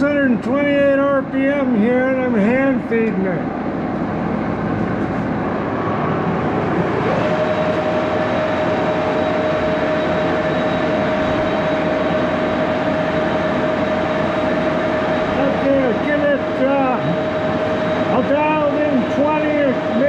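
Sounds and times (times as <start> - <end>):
rising whine: 2.1 - 20.0
lathe running: 3.5 - 20.0.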